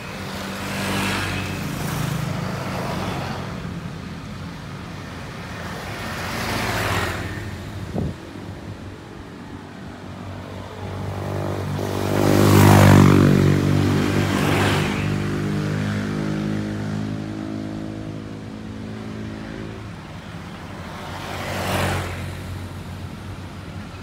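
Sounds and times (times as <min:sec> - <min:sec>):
motorcycles passing close by: 0:00.0 - 0:24.0.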